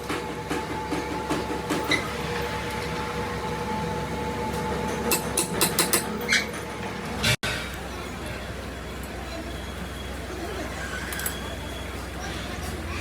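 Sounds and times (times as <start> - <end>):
machinery humming: 0.0 - 10.8.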